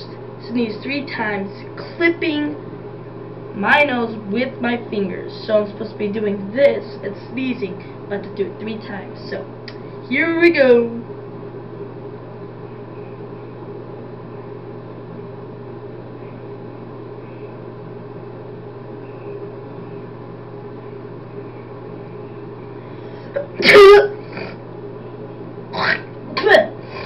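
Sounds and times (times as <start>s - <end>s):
steady low hum with hiss: 0.0s - 27.0s.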